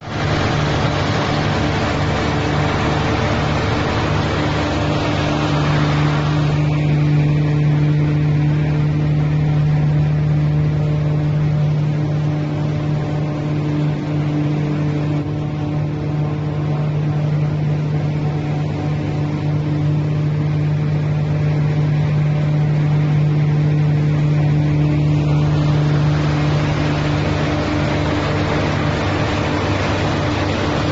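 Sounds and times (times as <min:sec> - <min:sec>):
straw cutting machine humming: 0:00.0 - 0:30.9.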